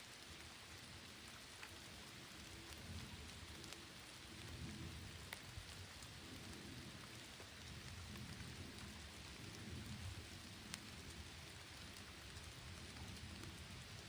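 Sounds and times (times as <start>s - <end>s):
steady rain falling: 0.0s - 14.0s
raindrop ticks: 0.1s - 14.0s.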